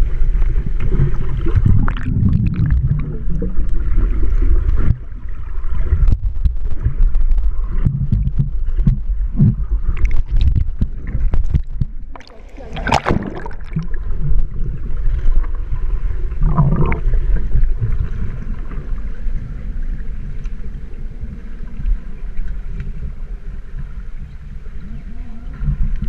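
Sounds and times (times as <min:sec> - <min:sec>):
muffled underwater water rumble: 0:00.0 - 0:26.0
water swish: 0:00.0 - 0:26.0.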